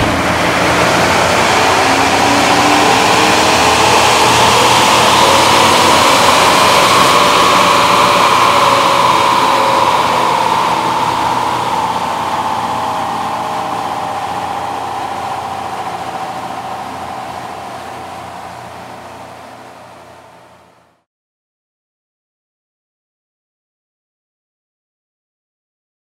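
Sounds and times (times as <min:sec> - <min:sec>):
engine and rollers whining: 0:00.0 - 0:21.0.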